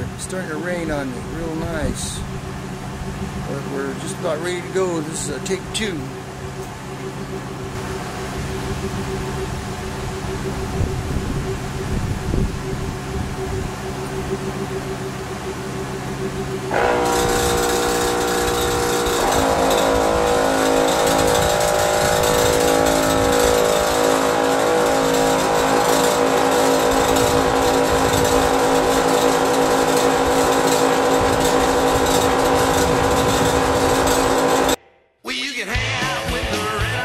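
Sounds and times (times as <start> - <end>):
air compressor buzzing hum: 0.0 - 34.8.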